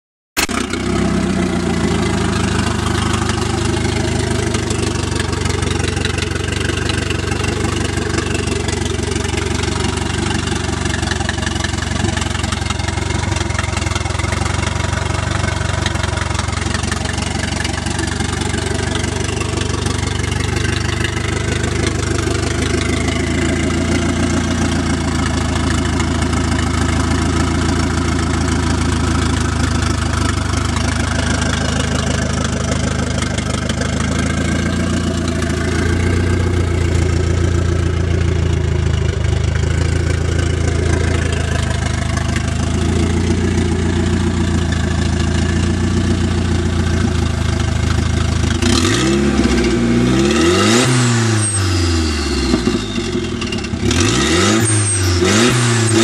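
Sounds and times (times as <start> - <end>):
car engine idling: 0.4 - 56.0.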